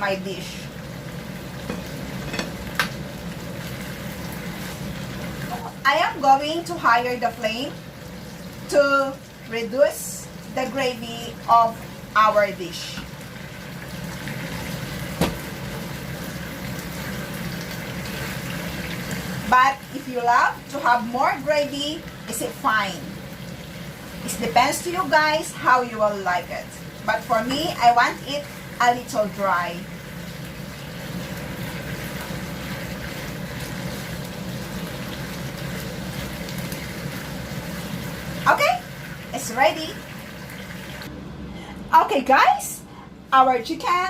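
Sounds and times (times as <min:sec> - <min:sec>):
sauce bubbling in a pan: 0:00.5 - 0:41.1.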